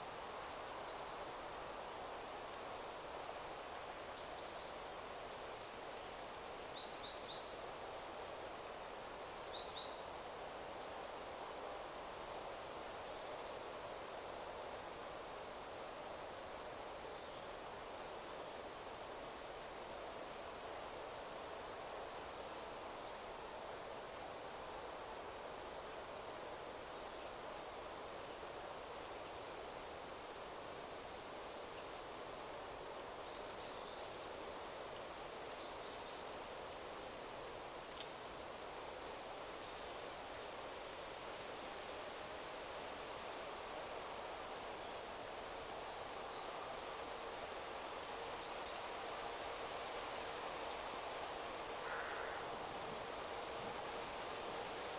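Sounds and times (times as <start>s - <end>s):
wind rustling through trees: 0.0s - 54.9s.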